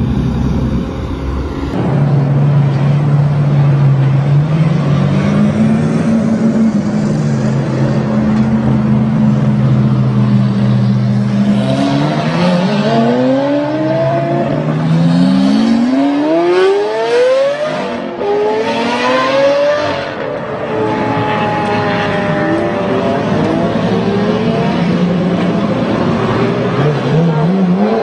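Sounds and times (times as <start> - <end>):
sports car engines accelerating: 0.0 - 28.0.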